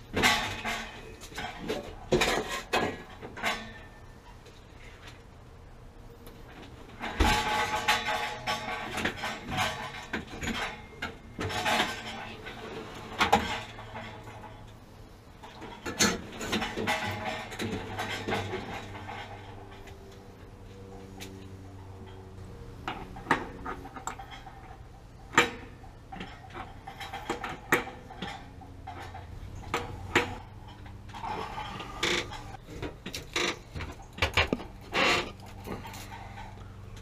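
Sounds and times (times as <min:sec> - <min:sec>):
sheet-metal pipe clanking and knocking: 0:00.1 - 0:04.1, 0:06.9 - 0:14.8, 0:15.4 - 0:20.0, 0:22.8 - 0:36.6.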